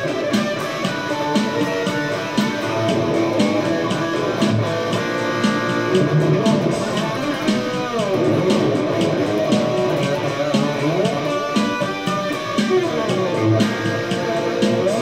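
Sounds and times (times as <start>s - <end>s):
electric guitar lead line: 0.0s - 15.0s
steady beat groove: 0.0s - 15.0s.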